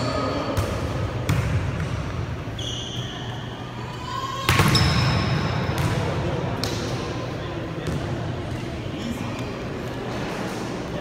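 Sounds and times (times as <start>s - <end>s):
sneakers squeaking: 0.0s - 11.0s.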